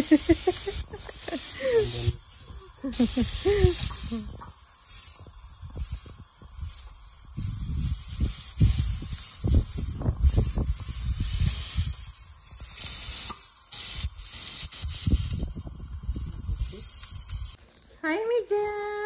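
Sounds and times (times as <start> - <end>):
meat sizzling on a grill: 0.0 - 17.6.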